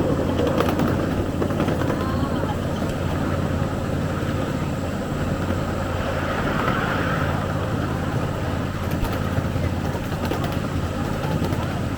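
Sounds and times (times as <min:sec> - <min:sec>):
ride-on train rumbling: 0:00.0 - 0:11.9.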